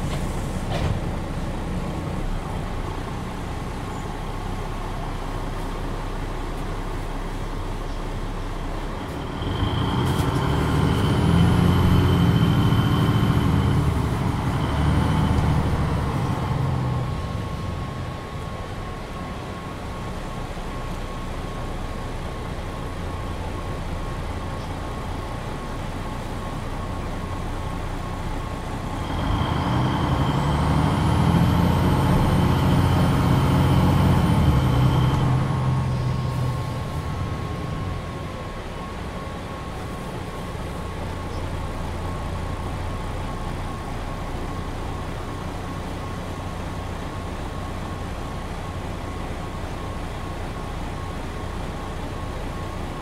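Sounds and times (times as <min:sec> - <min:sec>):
bus diesel engine: 0:00.0 - 0:53.0
high engine whine: 0:00.0 - 0:53.0.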